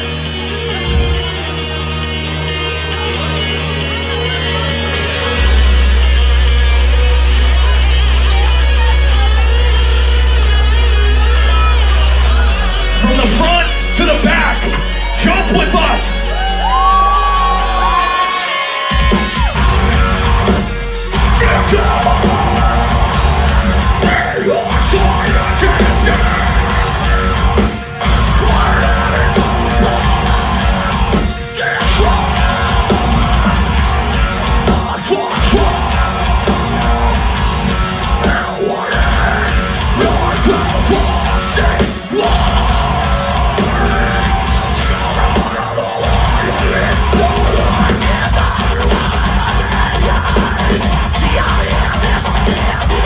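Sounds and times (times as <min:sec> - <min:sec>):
distorted electric guitars: 0:00.0 - 0:53.0
drums: 0:00.0 - 0:53.0
heavy metal band playing live: 0:00.0 - 0:53.0.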